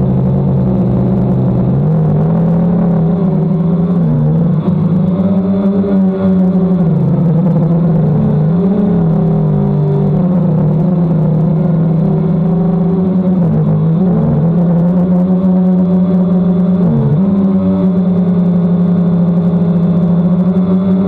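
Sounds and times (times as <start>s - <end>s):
drone propellers humming: 0.0s - 21.0s.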